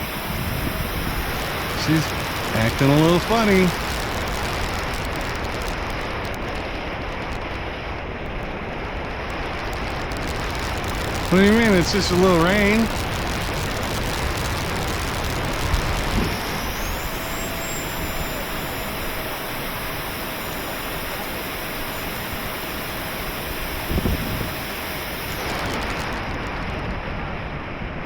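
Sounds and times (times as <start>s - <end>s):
electric ducted fan whining: 0.0s - 28.0s
wind and rain on microphone: 0.0s - 28.0s.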